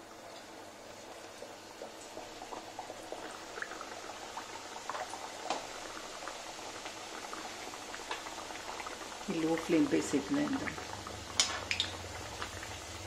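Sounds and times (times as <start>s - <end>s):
pastries sizzling in hot fat: 0.0s - 13.0s.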